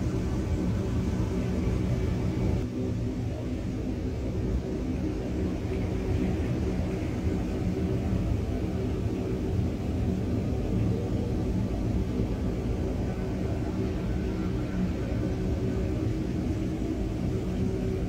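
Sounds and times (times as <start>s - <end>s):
low rumbling ambient drone: 0.0s - 18.0s.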